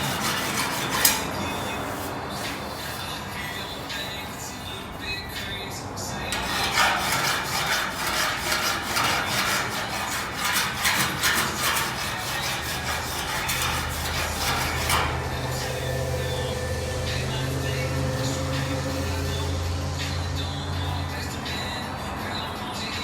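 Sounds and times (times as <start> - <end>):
file rasping on sheet metal: 0.0 - 5.5, 6.2 - 19.8.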